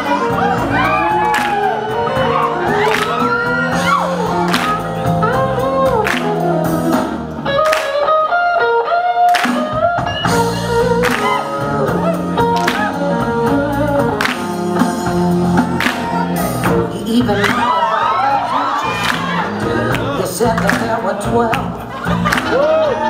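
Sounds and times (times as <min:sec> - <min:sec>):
bass and drums: 0:00.0 - 0:08.4, 0:09.4 - 0:23.0
blues lead guitar bending notes: 0:00.0 - 0:23.0.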